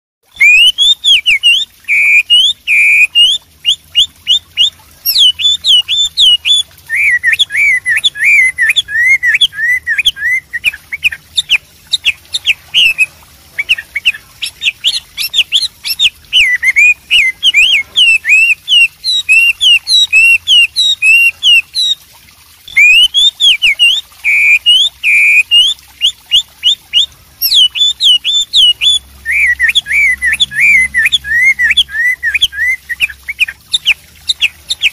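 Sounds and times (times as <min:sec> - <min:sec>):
songbird whistling: 0:00.3 - 0:22.0, 0:22.7 - 0:34.9.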